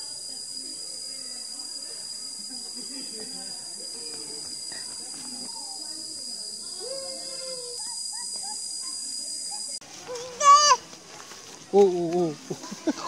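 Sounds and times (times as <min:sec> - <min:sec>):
faint voices: 0:00.0 - 0:13.0
insect chorus drone: 0:00.0 - 0:13.0.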